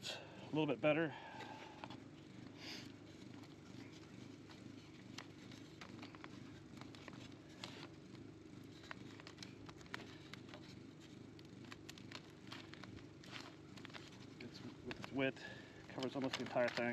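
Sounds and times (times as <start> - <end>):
honeybees humming: 0.0 - 16.9
comb and frames clicking: 1.8 - 16.9.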